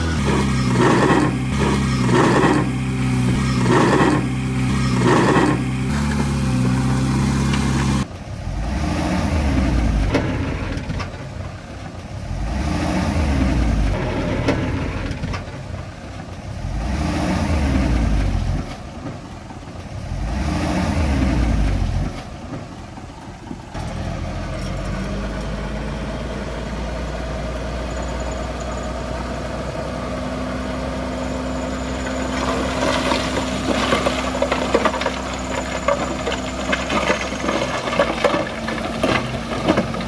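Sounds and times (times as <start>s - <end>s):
heavy diesel engine revving: 0.0s - 19.0s, 19.9s - 22.6s, 23.6s - 40.0s.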